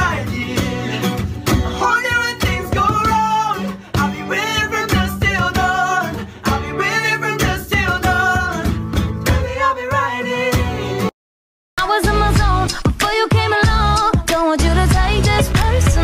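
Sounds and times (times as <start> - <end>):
person singing: 0.0 - 8.8, 11.8 - 16.0
guitar with steady beat: 0.0 - 11.1, 11.8 - 16.0.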